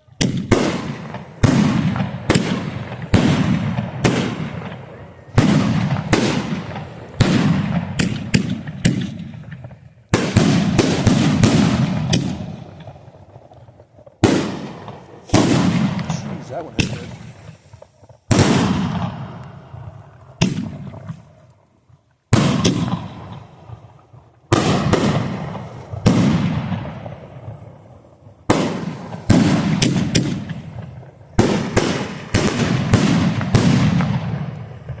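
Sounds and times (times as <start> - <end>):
firework shells booming: 0.0 - 21.5, 22.3 - 35.0.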